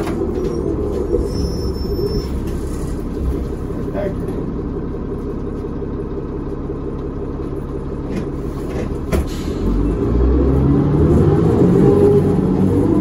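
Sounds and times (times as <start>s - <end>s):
bus diesel engine: 0.0s - 13.0s.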